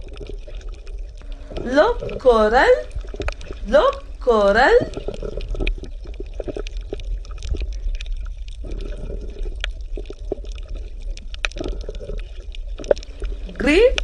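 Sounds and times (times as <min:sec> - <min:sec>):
small crackling clicks: 0:00.0 - 0:02.2, 0:02.9 - 0:04.0, 0:04.8 - 0:14.0
low underwater rumble: 0:00.0 - 0:14.0
water gurgling: 0:00.0 - 0:14.0.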